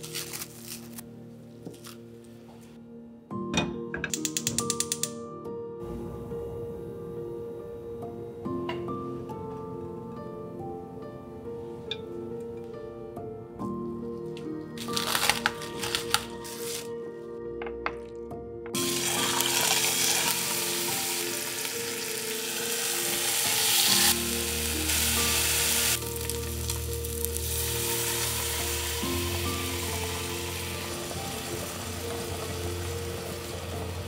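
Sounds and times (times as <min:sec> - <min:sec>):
soft background music: 0:00.0 - 0:34.0.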